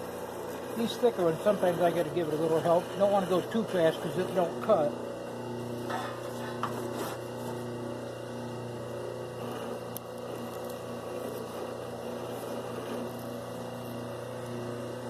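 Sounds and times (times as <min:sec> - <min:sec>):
wire stripping machine motor humming: 0:00.0 - 0:15.0.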